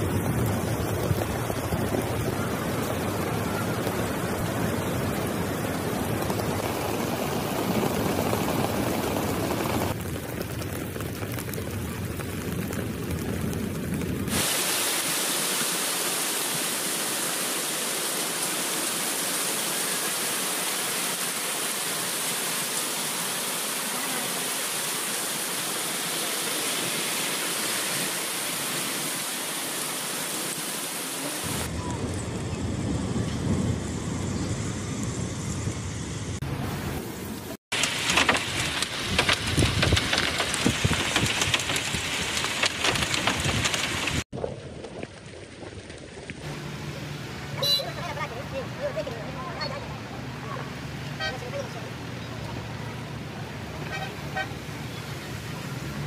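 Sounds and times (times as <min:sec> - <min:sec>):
heavy rain on pavement: 0:00.0 - 0:34.2, 0:35.0 - 0:56.0.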